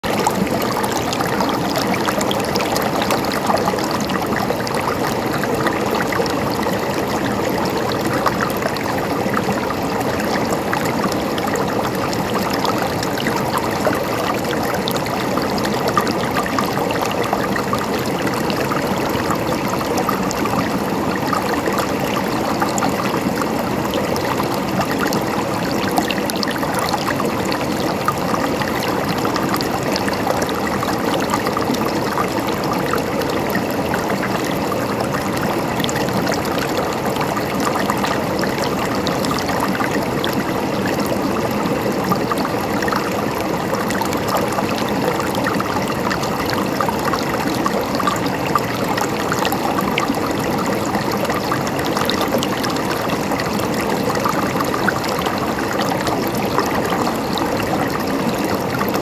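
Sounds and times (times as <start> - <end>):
stream gurgling over rocks: 0.0 - 59.0.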